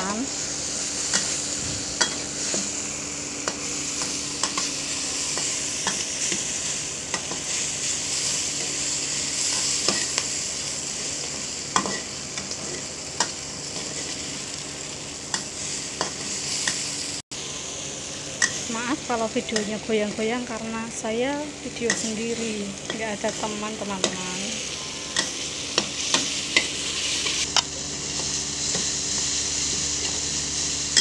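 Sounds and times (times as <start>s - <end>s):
paste sizzling in hot oil: 0.0s - 31.0s.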